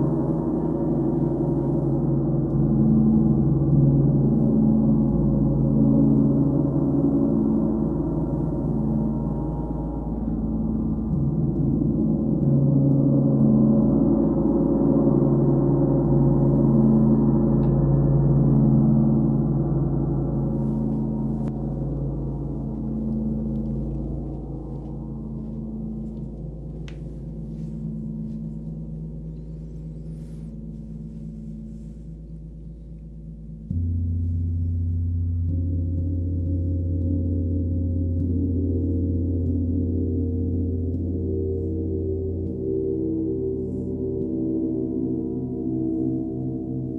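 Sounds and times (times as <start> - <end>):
deeper gong stroke: 0.0 - 46.9.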